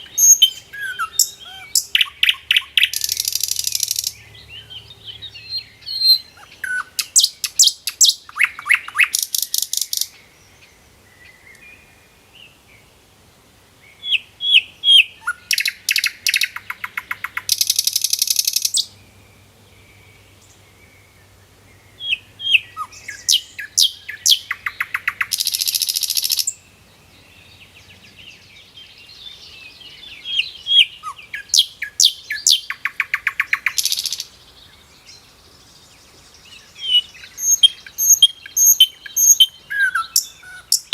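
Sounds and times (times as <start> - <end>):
faint bird chirps: 0.0 - 12.9, 13.8 - 40.9
songbird singing trills: 0.0 - 13.0, 13.8 - 40.9.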